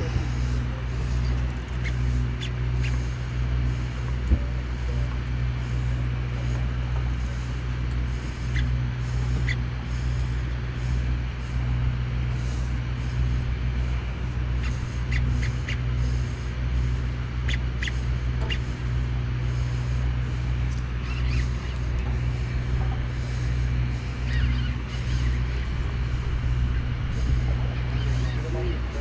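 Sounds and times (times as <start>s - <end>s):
boat machinery hum: 0.0s - 29.0s.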